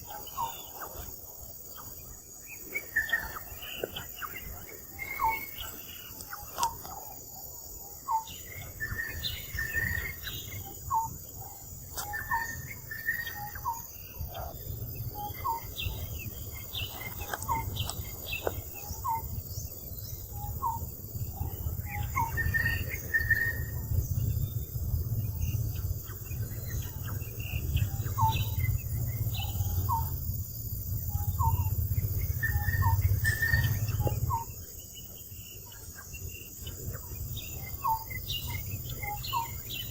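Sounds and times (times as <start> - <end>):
rising chirping calls: 0.0 - 30.2, 31.1 - 39.9
high insect drone: 0.0 - 39.9.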